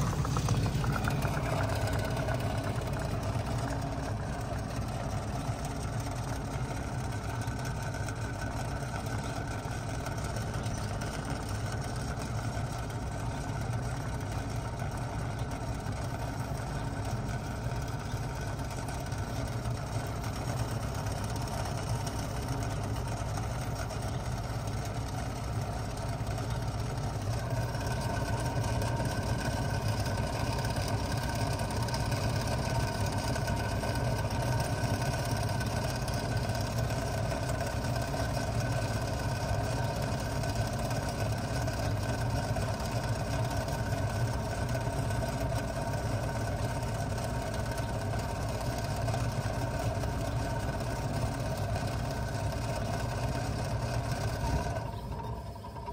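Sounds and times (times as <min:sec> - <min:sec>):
heat pump humming and whining: 0:00.0 - 0:55.9.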